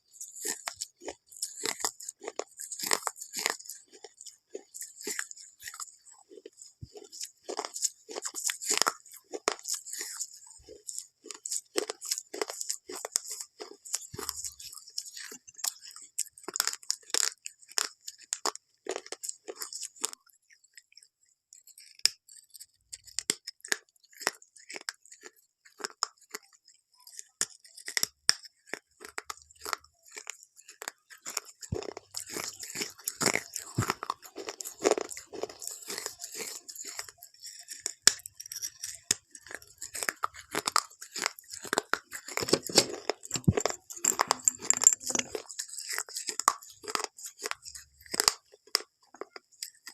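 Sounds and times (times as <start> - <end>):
crunchy food being chewed: 0.0 - 49.9.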